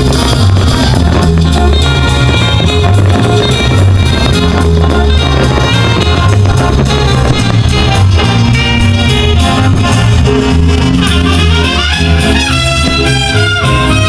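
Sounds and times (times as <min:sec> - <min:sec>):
loud music with brass: 0:00.0 - 0:14.0
steady bass line: 0:00.0 - 0:14.0.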